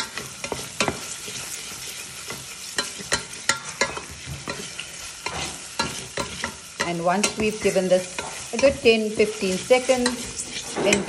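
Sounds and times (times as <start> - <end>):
food sizzling in oil: 0.0 - 11.0
utensil scraping against pan: 0.0 - 11.0.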